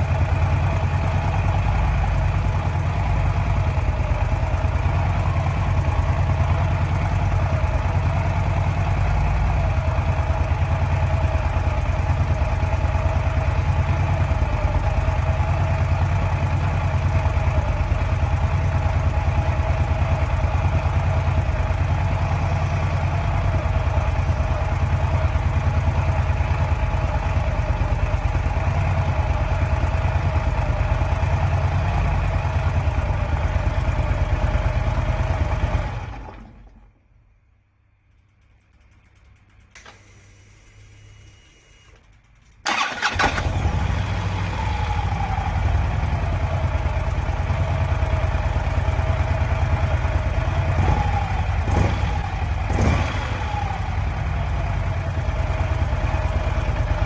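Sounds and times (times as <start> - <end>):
motorcycle engine idling: 0.0 - 36.5, 42.6 - 57.0.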